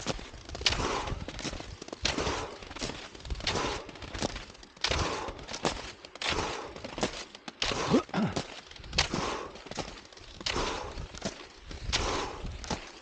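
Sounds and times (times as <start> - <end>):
skis scraping on packed snow: 0.0 - 13.0.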